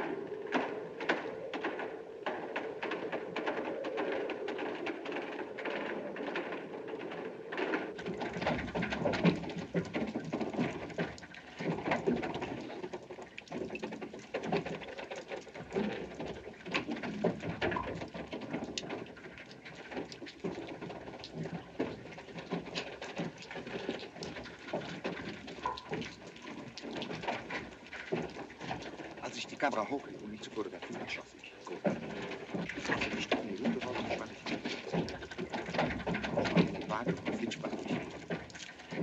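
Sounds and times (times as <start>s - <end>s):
wooden windmill gearing clattering: 0.0s - 39.0s.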